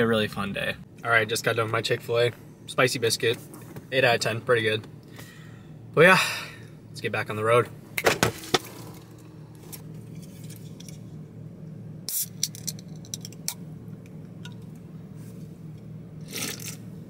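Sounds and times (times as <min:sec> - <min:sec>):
car engine low hum: 0:00.0 - 0:17.0.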